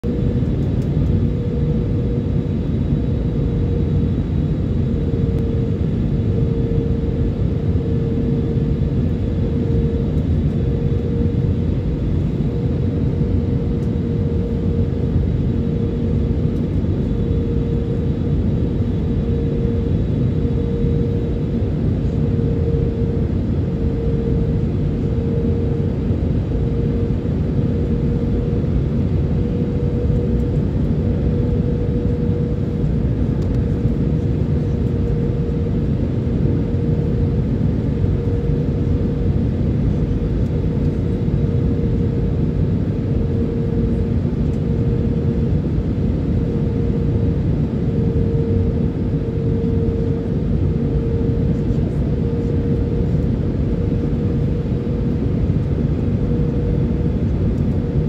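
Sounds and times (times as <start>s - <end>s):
jet engine and air rumble: 0.0s - 58.0s.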